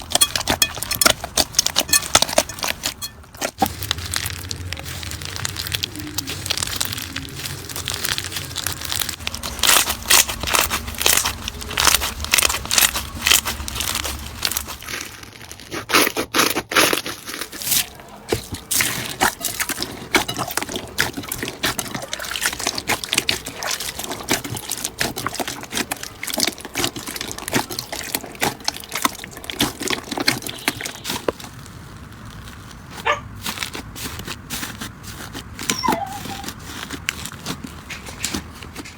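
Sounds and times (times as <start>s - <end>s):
hands squishing slime: 0.0s - 38.9s.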